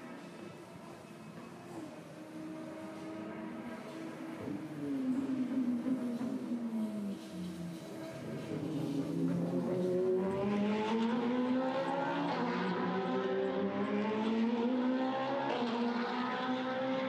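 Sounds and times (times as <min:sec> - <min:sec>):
race car engine accelerating: 0:01.8 - 0:17.0.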